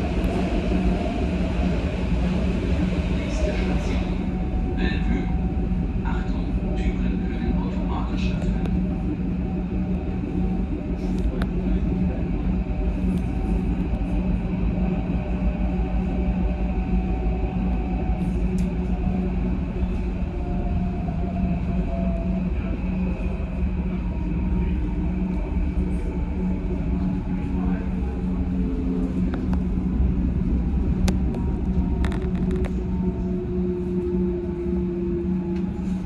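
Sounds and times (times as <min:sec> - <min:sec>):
constant low hum: 0:00.0 - 0:36.0
train wheels rumbling on rails: 0:00.0 - 0:36.0.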